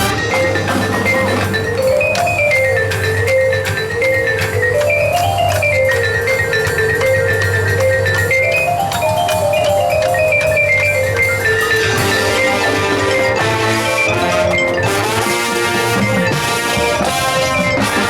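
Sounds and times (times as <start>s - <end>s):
mallet percussion playing: 0.0s - 18.0s.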